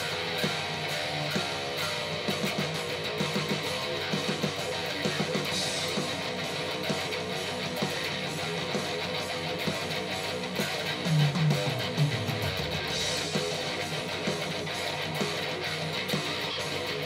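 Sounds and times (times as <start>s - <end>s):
electric guitar fast picked notes: 0.0s - 17.0s.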